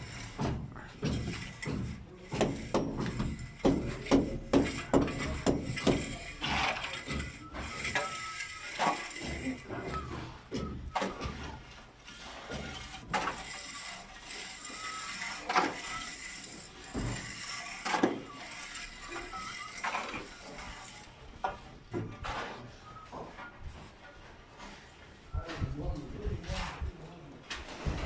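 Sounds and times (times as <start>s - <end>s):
clattering and scraping of hand work: 0.0s - 28.0s.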